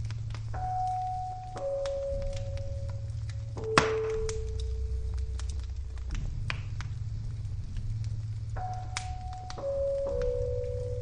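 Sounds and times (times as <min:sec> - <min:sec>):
fire crackling and popping: 0:00.0 - 0:11.0
low steady rumble: 0:00.0 - 0:11.0
soft long-held musical notes: 0:00.0 - 0:11.0.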